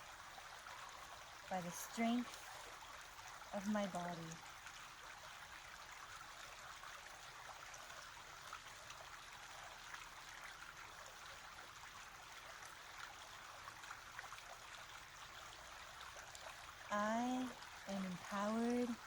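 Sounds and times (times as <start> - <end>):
trickle of running water: 0.0 - 19.0.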